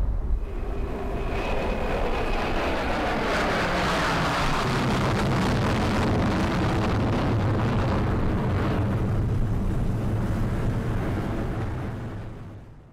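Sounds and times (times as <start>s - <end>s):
jet aircraft roar: 0.0s - 12.6s.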